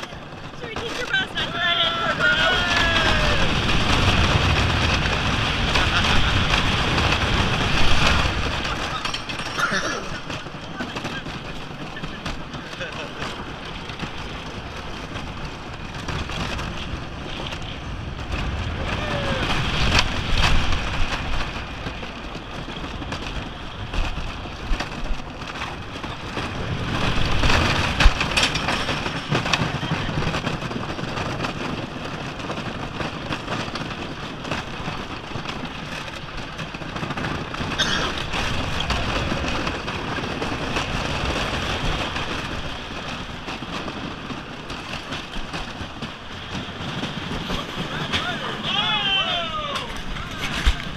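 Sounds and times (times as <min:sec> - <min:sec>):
roller coaster train rumbling: 0:00.0 - 0:50.9
rushing wind: 0:00.0 - 0:50.9.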